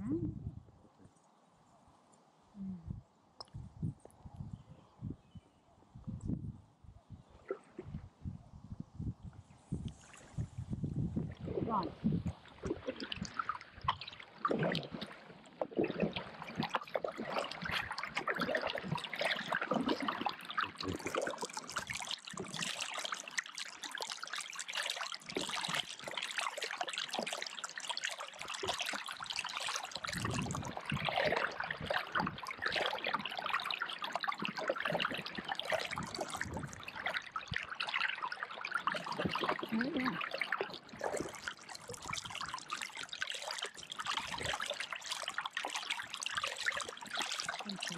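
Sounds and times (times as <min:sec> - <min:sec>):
water trickling and splashing: 0:09.4 - 0:47.9.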